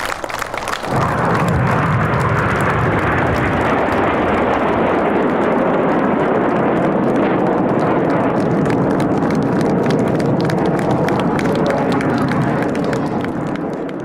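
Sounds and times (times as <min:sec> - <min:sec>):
loud jet noise: 0:00.0 - 0:14.0.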